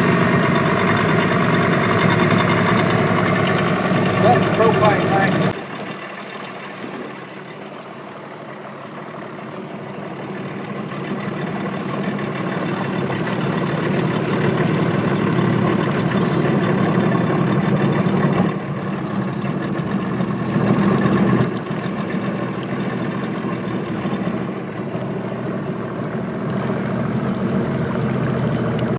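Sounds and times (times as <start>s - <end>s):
vehicle motor running: 0.0s - 28.9s.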